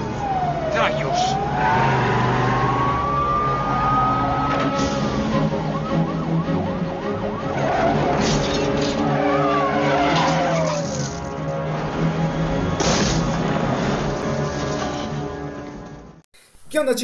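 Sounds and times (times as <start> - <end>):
police siren wailing: 0.0 - 14.4
tyres skidding: 0.0 - 16.2
vehicles running: 0.0 - 16.2.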